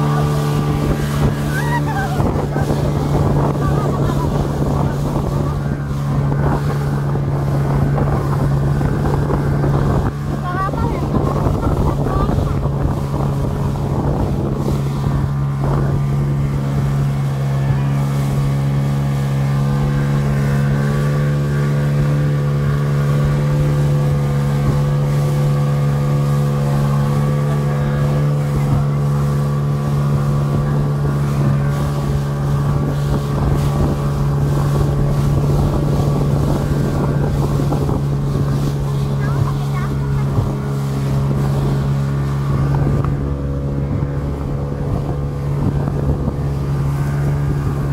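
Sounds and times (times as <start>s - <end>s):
speedboat engine droning: 0.0s - 47.9s
wind buffeting microphone: 0.0s - 47.9s.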